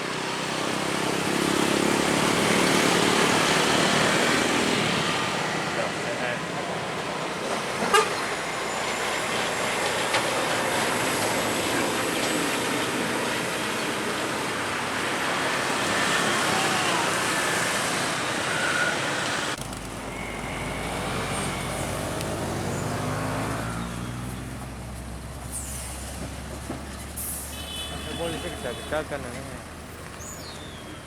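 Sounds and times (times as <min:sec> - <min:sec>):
highway traffic rushing: 0:00.0 - 0:31.0
heavy truck engine passing: 0:00.1 - 0:30.1.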